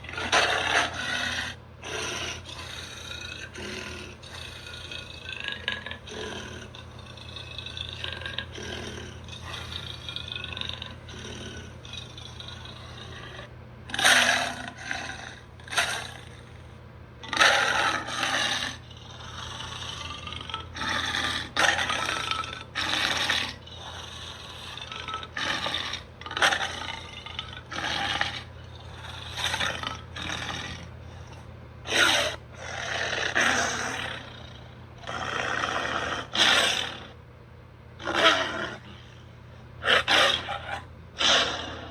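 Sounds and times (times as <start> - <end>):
robotic cheetah growls and roars: 0.0 - 16.4, 17.2 - 37.2, 38.0 - 38.9, 39.8 - 41.9.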